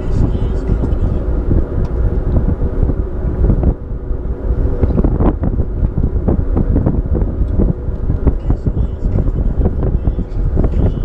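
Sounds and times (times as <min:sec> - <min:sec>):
boat motor running: 0:00.0 - 0:11.0
wind buffeting microphone: 0:00.0 - 0:11.0.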